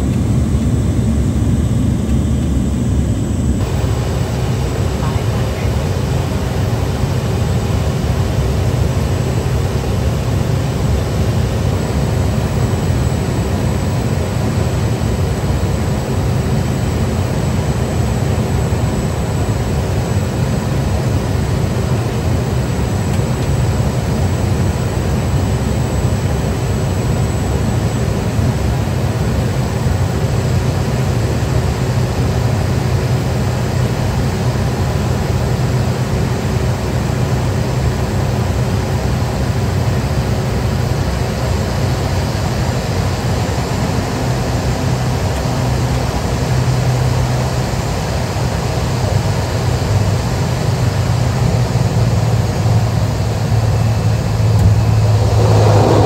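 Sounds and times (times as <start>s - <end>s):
turboprop engine hum in cabin: 0.0s - 56.0s.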